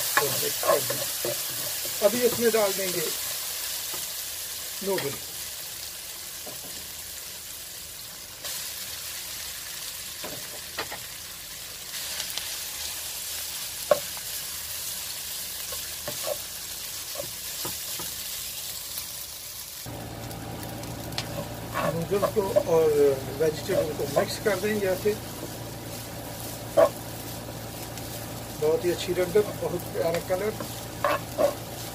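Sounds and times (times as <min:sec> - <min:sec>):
food sizzling in a frying pan: 0:00.0 - 0:31.9.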